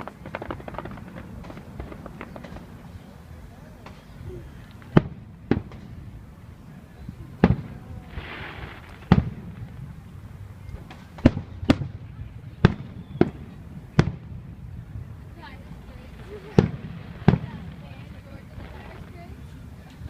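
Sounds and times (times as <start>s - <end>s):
fireworks hiss: 0.0s - 11.8s, 15.3s - 19.8s
fireworks bursting with sharp bangs: 0.0s - 20.0s.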